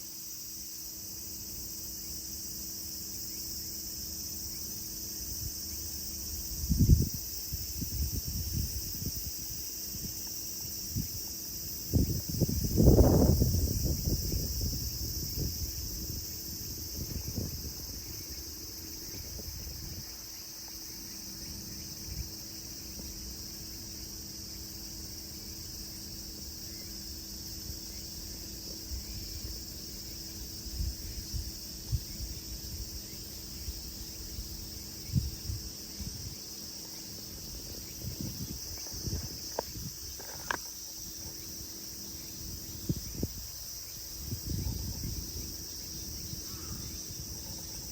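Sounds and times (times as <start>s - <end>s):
cicadas singing: 0.0s - 47.9s.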